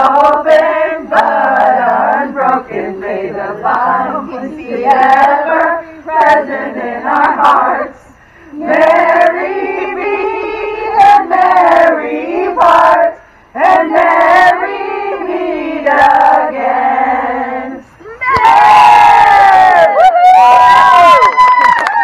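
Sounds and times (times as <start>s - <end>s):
voices singing slow song: 0.0s - 20.1s.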